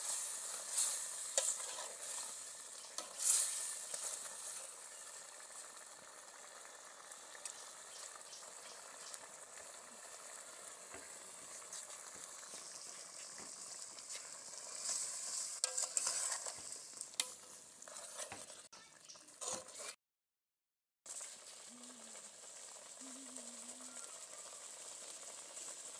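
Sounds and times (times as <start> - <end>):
soup sizzling in a pot: 0.0 - 20.0, 21.1 - 25.9.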